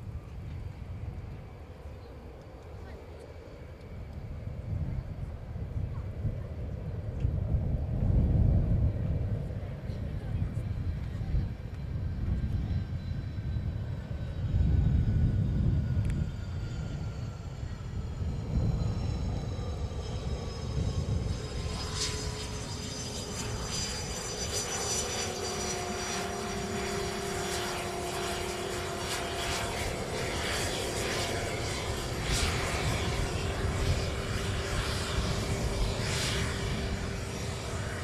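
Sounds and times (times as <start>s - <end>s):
jet engines whining: 0.0s - 38.0s.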